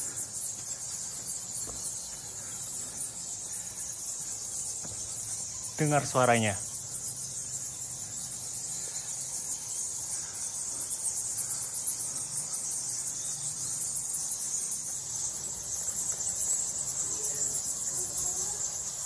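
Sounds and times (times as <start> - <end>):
bats twittering squeaks: 0.0 - 19.0.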